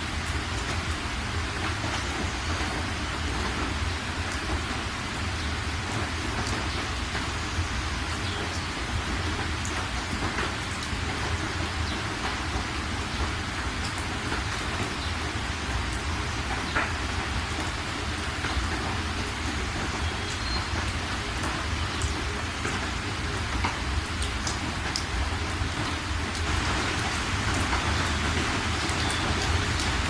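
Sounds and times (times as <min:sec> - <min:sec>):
heavy rain falling: 0:00.0 - 0:30.0
raindrops ticking: 0:00.0 - 0:30.0.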